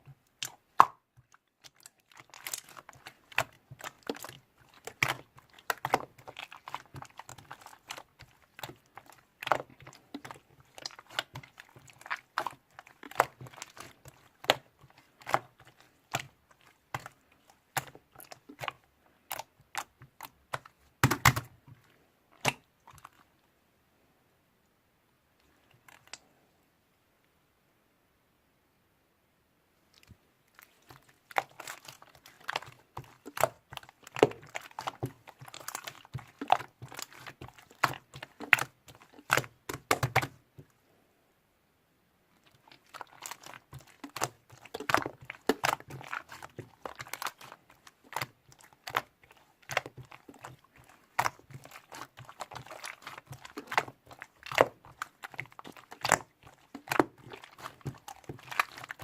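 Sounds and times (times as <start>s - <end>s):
crunching and crackling clicks: 0.3s - 23.3s, 25.4s - 26.3s, 29.9s - 40.7s, 42.4s - 59.0s.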